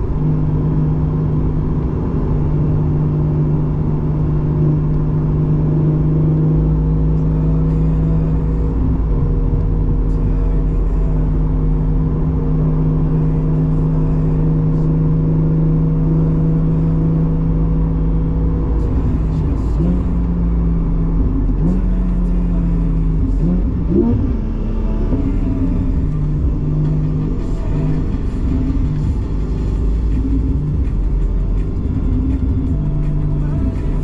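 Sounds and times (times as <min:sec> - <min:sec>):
sports car engine droning: 0:00.0 - 0:34.0.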